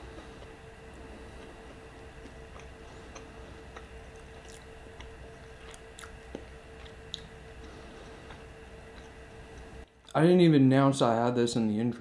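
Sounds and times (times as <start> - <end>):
low electrical hum: 0.0 - 12.0
chewing with mouth clicks: 0.2 - 10.0.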